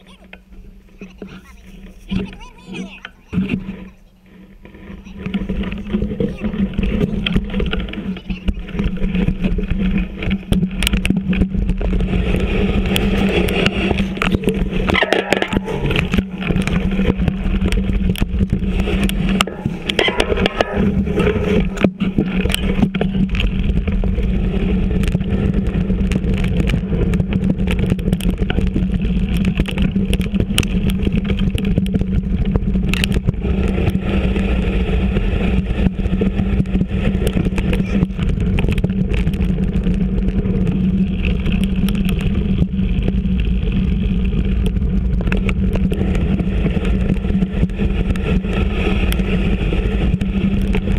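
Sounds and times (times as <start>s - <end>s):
bike rattling over bumps: 0.0s - 50.9s
bike tyres rumbling on dirt trail: 0.0s - 50.9s
wind: 0.0s - 50.9s.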